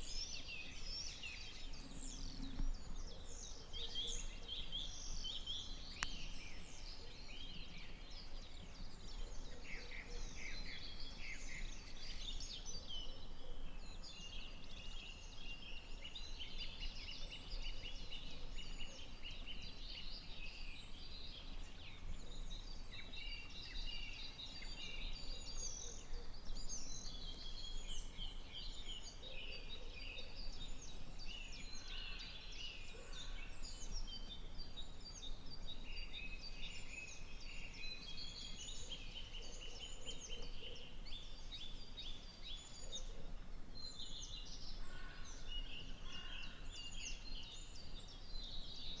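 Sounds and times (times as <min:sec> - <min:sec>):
songbirds singing: 0:00.0 - 0:49.0.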